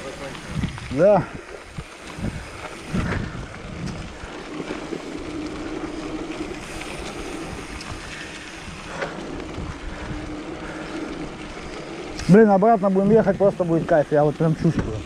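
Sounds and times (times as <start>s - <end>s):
wind rushing over microphone: 0.4s - 13.4s.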